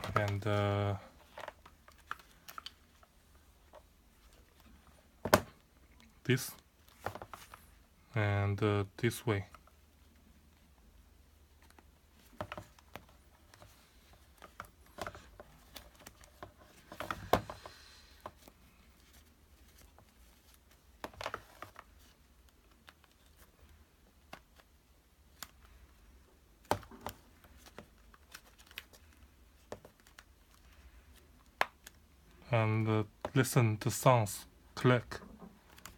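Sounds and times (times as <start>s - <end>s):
plastic and fabric clicks and rustles: 0.0s - 6.1s, 6.8s - 7.8s, 11.5s - 32.4s, 35.0s - 35.9s.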